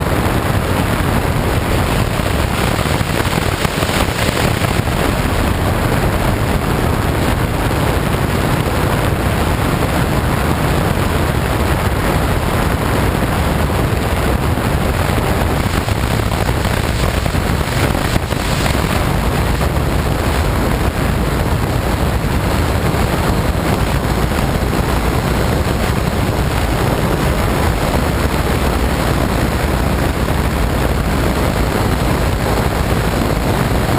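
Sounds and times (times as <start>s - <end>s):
ultralight aircraft engine and propeller: 0.0s - 33.9s
wind noise on microphone: 0.0s - 33.9s.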